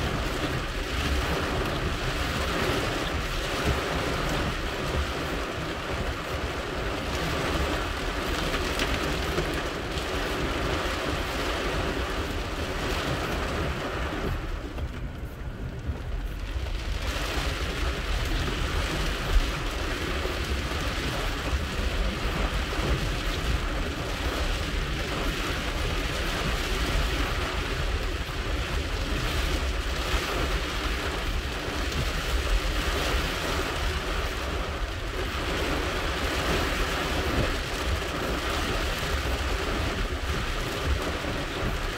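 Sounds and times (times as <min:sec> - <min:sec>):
car rumbling on wet road: 0:00.0 - 0:41.9
heavy rain drumming on car roof: 0:00.0 - 0:41.9.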